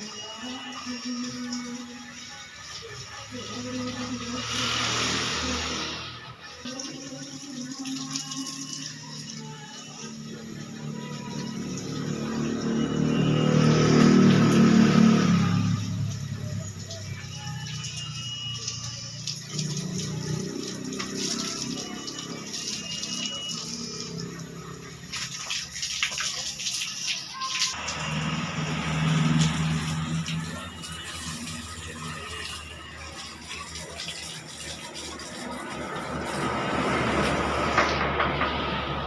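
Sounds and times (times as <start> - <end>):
music playing: 0.0 - 25.0, 27.3 - 37.7
water running and splashing: 0.0 - 38.0.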